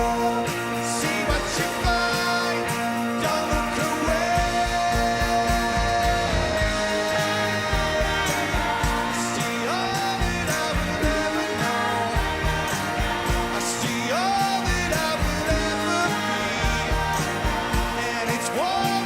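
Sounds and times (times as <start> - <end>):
drumbeat: 0.0 - 19.0
lead vocal singing: 0.0 - 19.0
rock band playing: 0.0 - 19.0.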